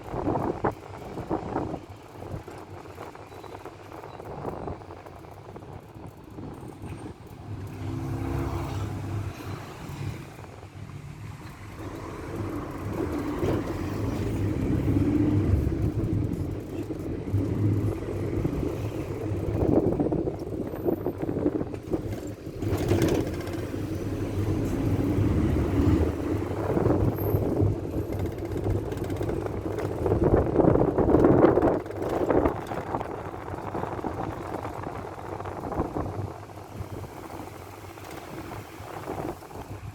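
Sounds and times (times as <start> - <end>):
low engine rumble: 0.0 - 39.9
road noise: 0.0 - 39.9.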